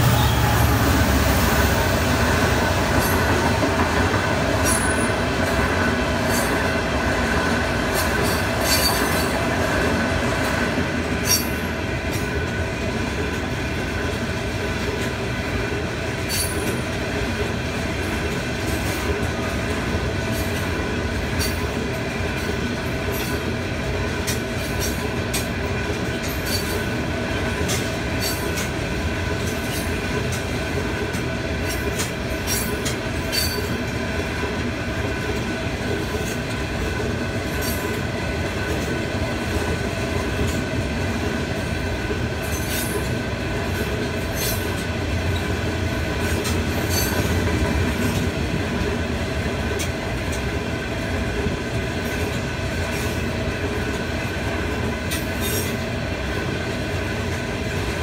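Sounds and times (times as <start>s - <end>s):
train wheels rumbling on rails: 0.0s - 58.0s
wheels clicking over rail joints: 2.7s - 12.6s, 13.2s - 23.6s, 24.2s - 56.5s.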